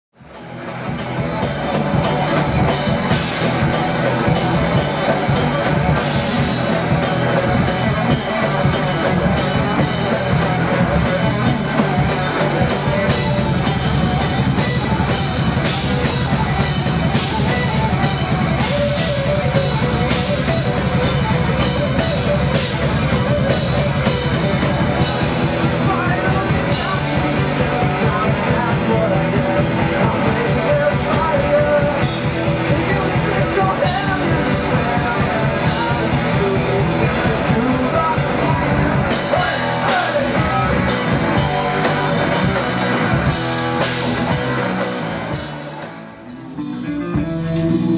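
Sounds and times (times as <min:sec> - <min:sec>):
drum kit: 0:00.1 - 0:47.9
electric guitars: 0:00.2 - 0:47.9.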